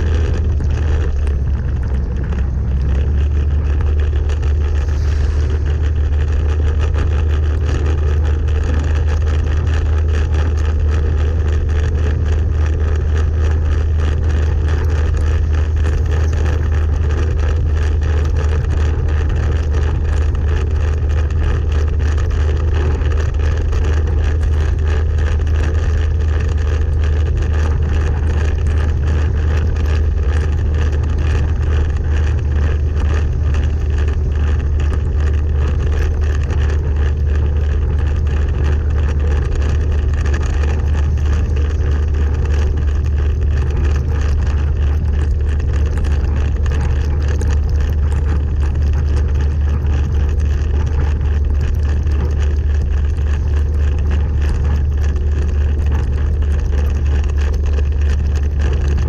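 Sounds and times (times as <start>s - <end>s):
rain: 0.0s - 59.0s
vehicle road and wind noise: 0.0s - 59.0s.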